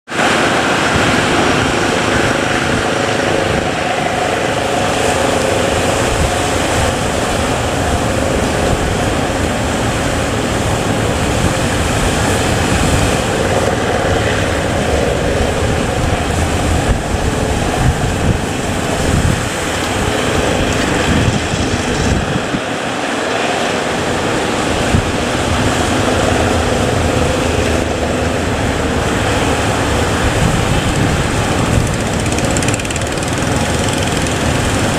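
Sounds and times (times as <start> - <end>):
speedboat engine running: 0.0 - 34.9
wind rushing: 0.1 - 34.9.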